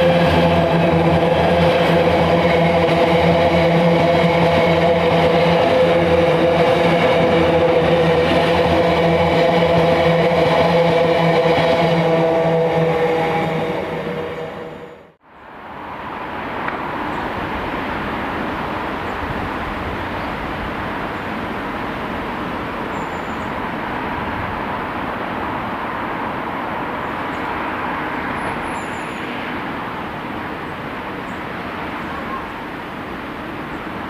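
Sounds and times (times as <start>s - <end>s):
freight train rumbling: 0.0s - 34.0s.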